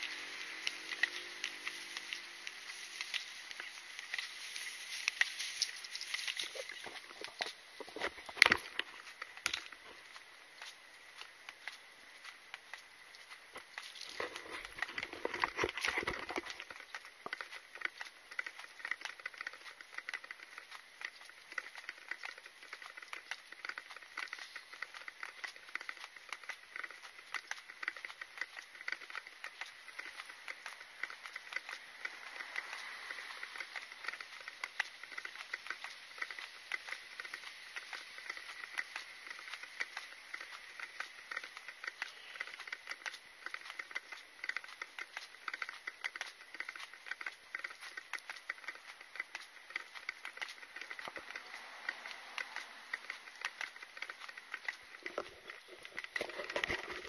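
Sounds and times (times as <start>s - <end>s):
fine clicking: 0.0s - 57.0s.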